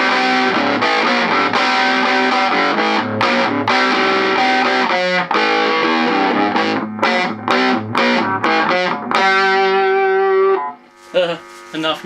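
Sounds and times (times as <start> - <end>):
distorted electric guitar riff: 0.0 - 12.0.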